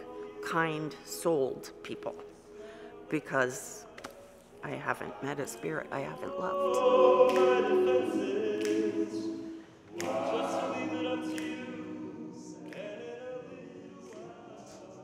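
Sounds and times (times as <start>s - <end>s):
male group singing in harmony: 2.2s - 15.0s.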